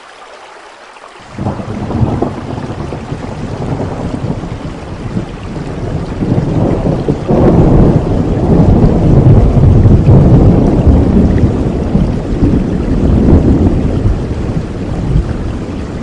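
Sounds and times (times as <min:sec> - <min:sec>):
steady rain: 0:00.0 - 0:16.0
rolling thunder rumble: 0:01.3 - 0:16.0.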